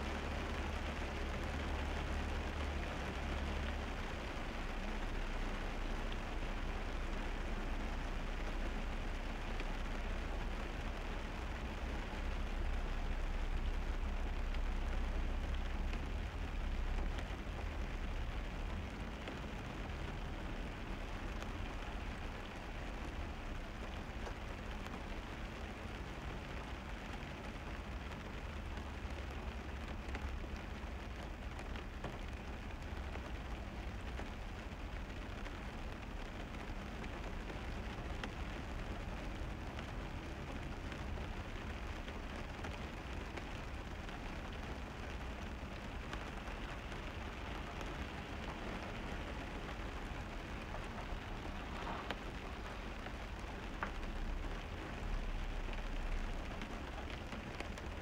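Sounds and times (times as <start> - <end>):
rain on wet road: 0.0 - 58.0.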